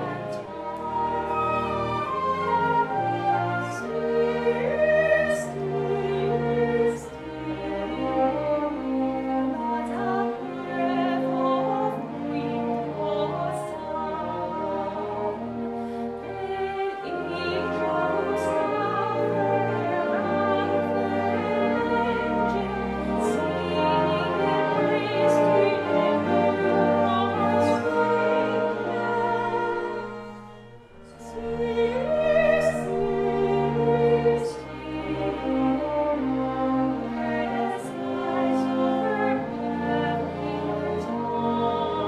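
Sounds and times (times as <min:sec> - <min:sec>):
chamber orchestra playing: 0:00.0 - 0:42.0
soprano singing a carol: 0:00.0 - 0:42.0.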